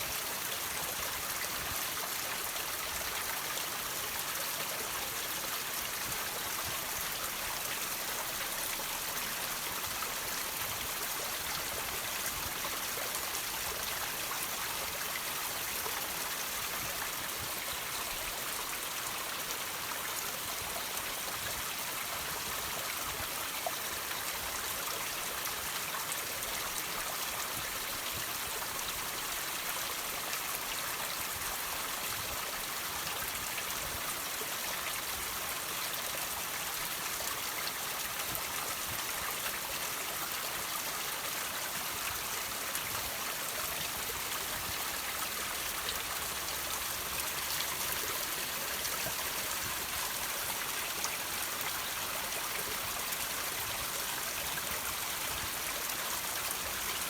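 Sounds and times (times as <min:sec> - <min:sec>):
water trickling over rocks: 0:00.0 - 0:57.0.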